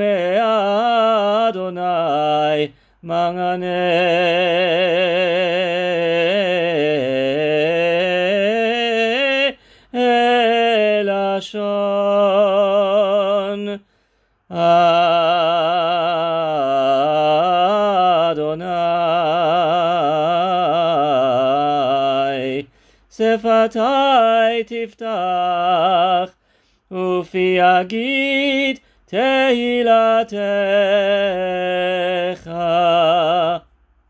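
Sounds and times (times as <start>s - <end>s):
man chanting solo with vibrato: 0.0s - 13.8s, 14.5s - 33.6s.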